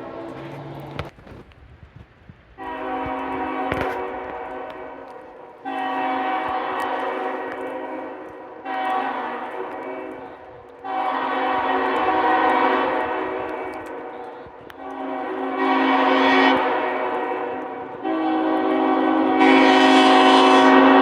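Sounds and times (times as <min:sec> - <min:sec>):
locomotive air horn blasts: 0:02.6 - 0:21.0.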